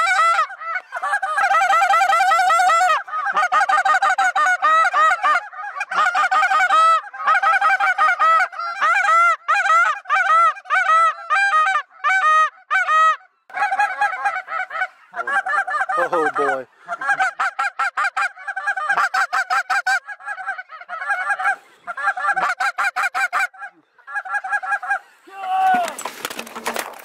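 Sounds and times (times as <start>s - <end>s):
geese honking: 0.0s - 25.6s.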